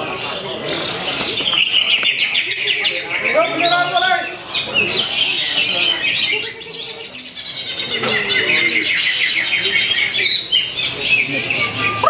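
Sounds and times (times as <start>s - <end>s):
bird singing chirps and trills: 0.0s - 12.0s.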